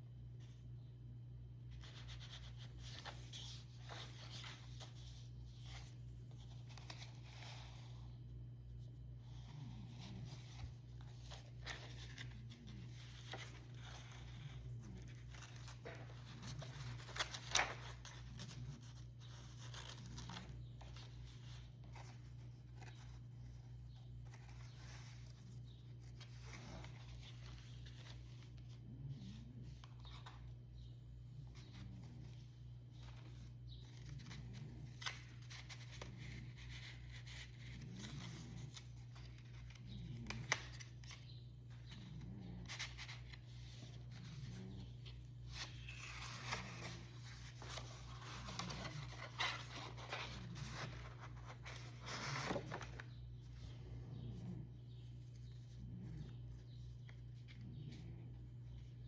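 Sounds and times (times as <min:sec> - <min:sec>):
paper pages rustling: 0:01.7 - 0:53.8.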